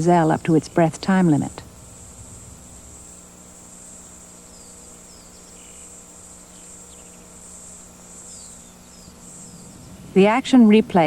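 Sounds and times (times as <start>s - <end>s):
insects trilling: 0.0s - 11.0s
low steady hum: 0.0s - 11.0s.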